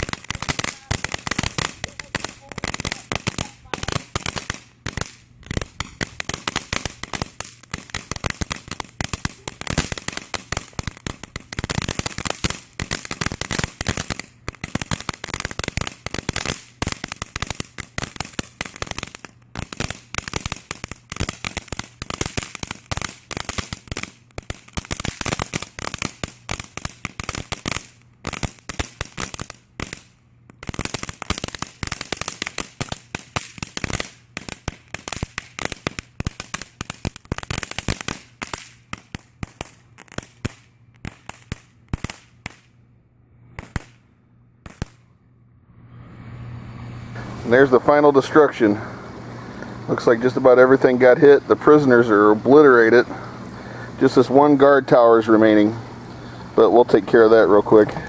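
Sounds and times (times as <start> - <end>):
firecrackers popping: 0.0 - 42.8, 43.5 - 45.1, 47.1 - 58.0.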